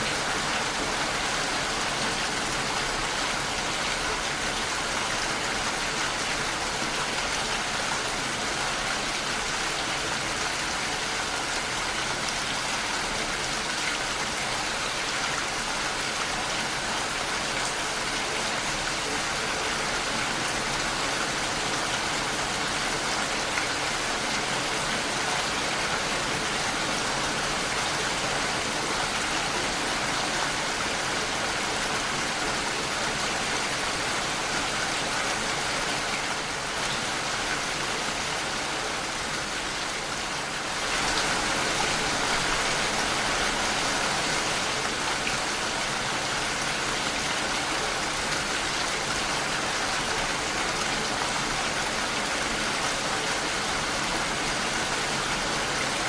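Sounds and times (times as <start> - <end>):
rain on a window: 0.0 - 56.0.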